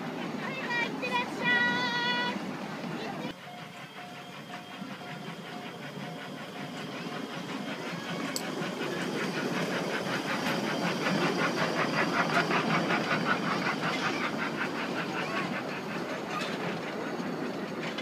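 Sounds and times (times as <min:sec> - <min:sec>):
miniature train hiss: 0:00.0 - 0:18.0
rapid clicking of train wheels: 0:00.0 - 0:18.0.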